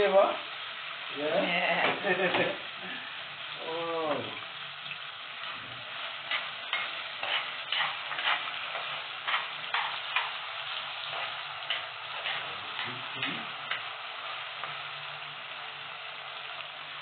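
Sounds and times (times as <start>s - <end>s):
seasonings sizzling in hot oil: 0.0s - 17.0s.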